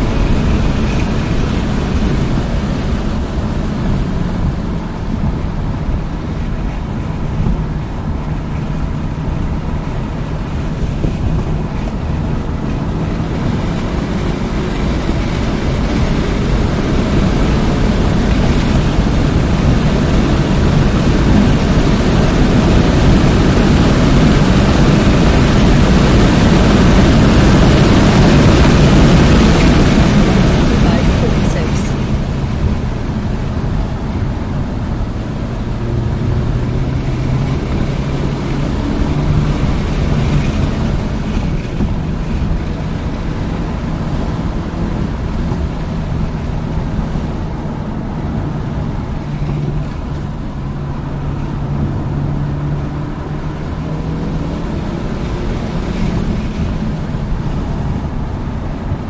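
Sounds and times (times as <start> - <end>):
car engine driving at speed: 0.0 - 59.0
road and wind noise: 0.0 - 59.0.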